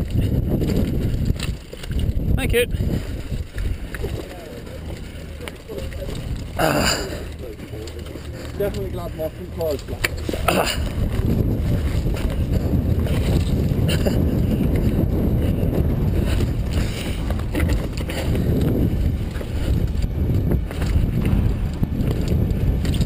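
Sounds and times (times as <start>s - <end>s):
bike clicking and rattling: 0.0s - 23.0s
bike tyres rolling on stone: 0.0s - 23.0s
wind on microphone: 0.0s - 23.0s.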